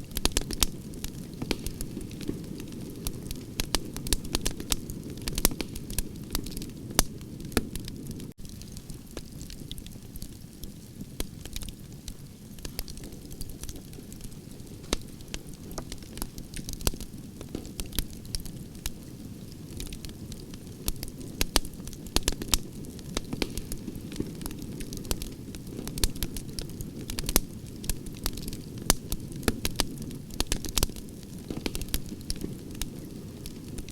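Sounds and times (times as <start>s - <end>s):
burning logs crackling and popping: 0.0s - 33.9s
rumble of fire flames: 0.0s - 33.9s.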